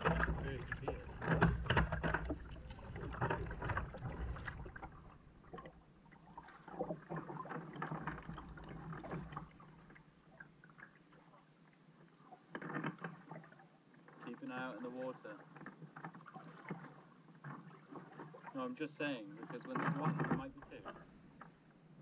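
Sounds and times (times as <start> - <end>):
kayak paddles splashing in water: 0.0 - 22.0.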